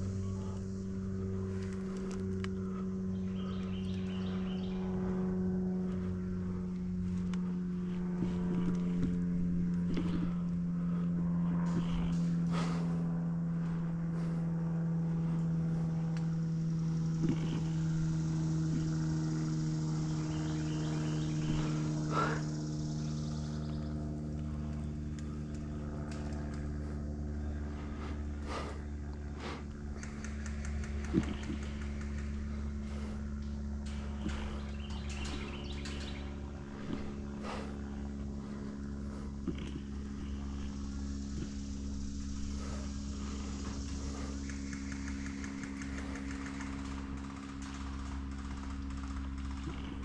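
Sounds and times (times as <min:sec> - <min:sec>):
faint clicks and rustles: 0:00.0 - 0:22.4, 0:23.0 - 0:50.0
low mechanical hum: 0:00.0 - 0:50.0.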